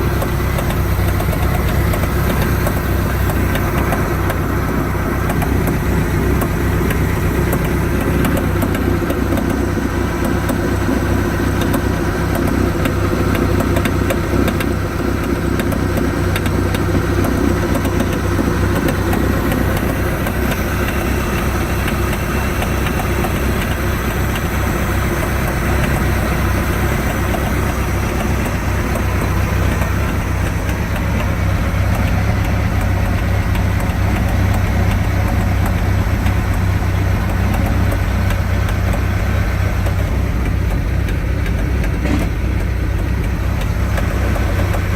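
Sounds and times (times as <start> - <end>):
boat engine idling: 0.0 - 44.9
fast continuous clicking: 0.0 - 44.9.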